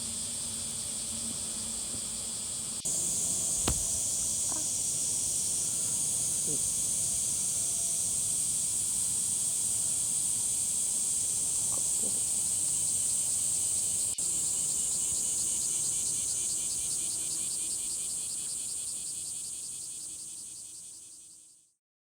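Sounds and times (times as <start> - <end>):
insects chirping: 0.2 - 21.6.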